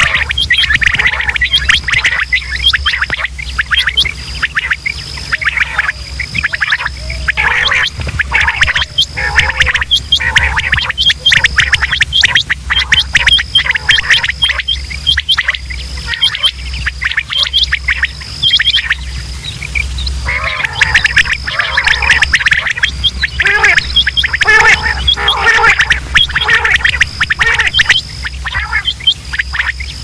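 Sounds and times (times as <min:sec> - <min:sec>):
low hum: 0:00.0 - 0:30.0
quail calling: 0:00.0 - 0:30.0
steady high tone: 0:05.2 - 0:30.0.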